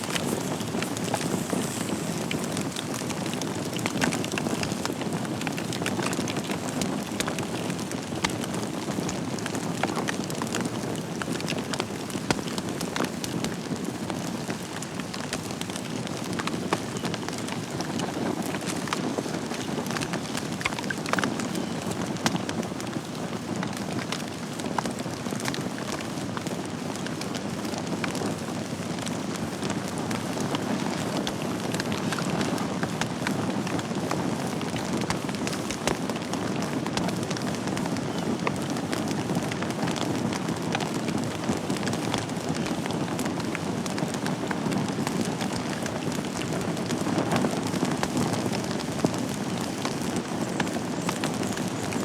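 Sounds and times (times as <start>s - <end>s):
wood fire crackling in fireplace: 0.0s - 52.0s.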